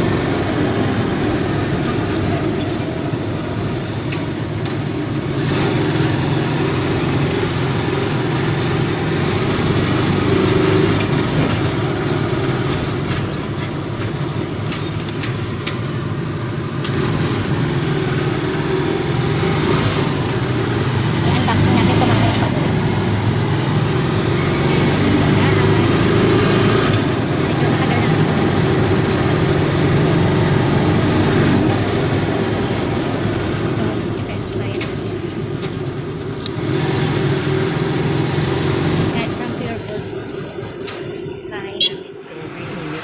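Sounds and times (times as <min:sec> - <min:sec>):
motorcycle engine running: 0:00.0 - 0:43.0
road noise: 0:00.0 - 0:43.0.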